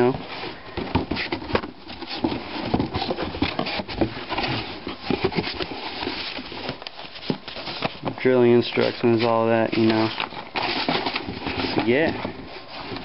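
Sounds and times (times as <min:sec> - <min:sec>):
paper and cardboard rustling: 0:00.0 - 0:13.0.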